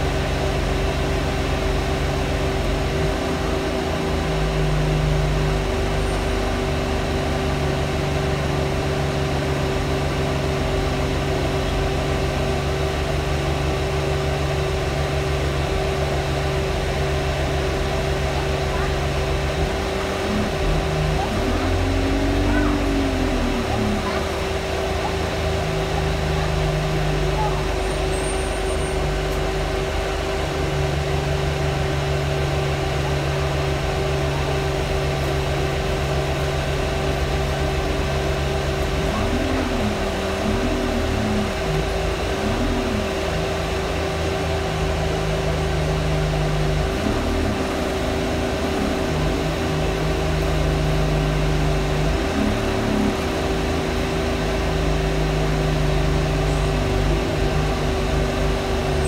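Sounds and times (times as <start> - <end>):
bus engine: 0.0 - 59.0
bus fan droning: 0.0 - 59.0.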